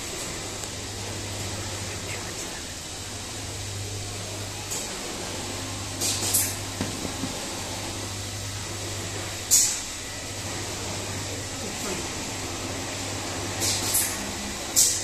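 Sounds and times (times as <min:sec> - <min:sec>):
machinery hum with high whine: 0:00.0 - 0:15.0.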